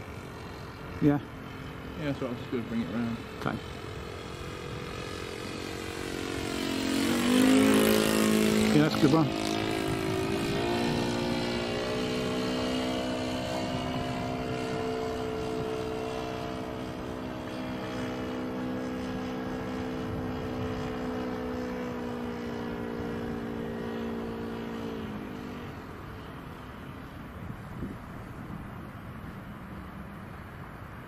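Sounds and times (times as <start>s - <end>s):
model plane engine overhead: 0.0s - 31.0s.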